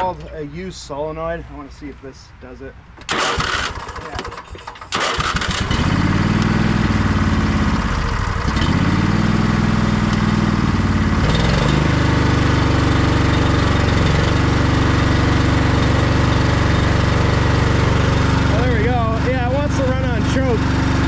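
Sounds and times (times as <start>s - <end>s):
lawn tractor engine running: 3.0s - 21.0s.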